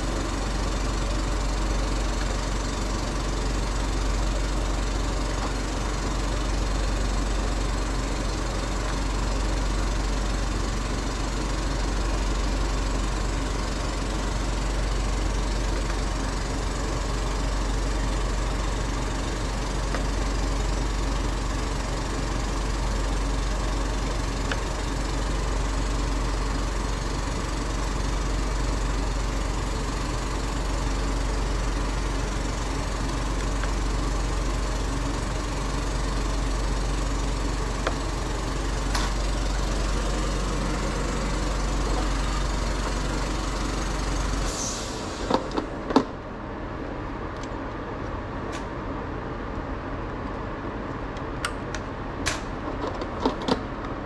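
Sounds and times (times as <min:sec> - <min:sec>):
machine motor humming: 0:00.0 - 0:45.9.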